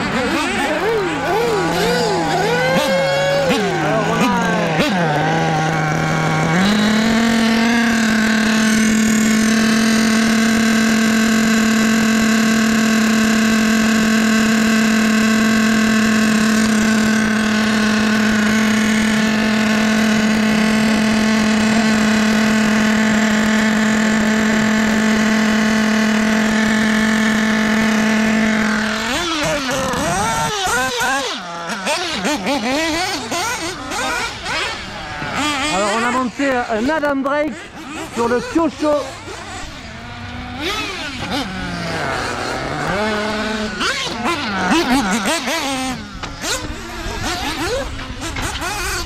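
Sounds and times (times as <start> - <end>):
model car engine idling: 0.0 - 49.0.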